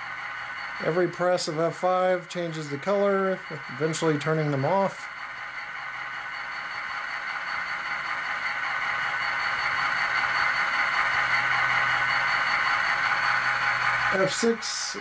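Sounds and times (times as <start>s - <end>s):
model locomotive mechanical hiss and hum: 0.0s - 15.0s.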